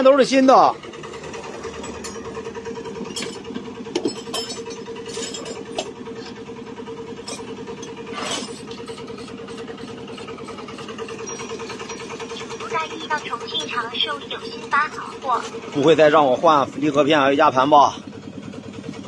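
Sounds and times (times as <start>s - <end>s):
motor humming steadily: 0.0s - 19.0s.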